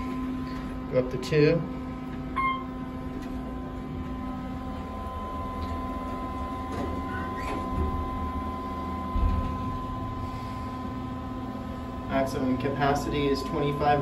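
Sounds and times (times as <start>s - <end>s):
elevator ventilation fan humming: 0.0s - 14.0s.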